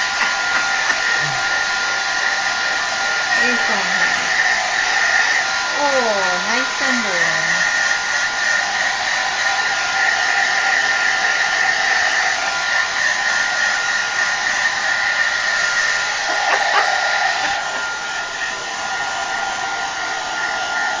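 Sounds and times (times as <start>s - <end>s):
hairdryer blowing with whine: 0.0s - 21.0s.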